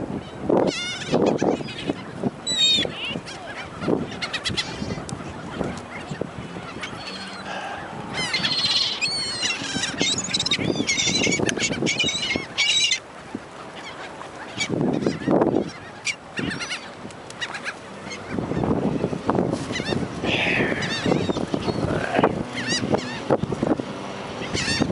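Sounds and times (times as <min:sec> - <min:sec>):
seagulls squawking: 0:00.2 - 0:24.9.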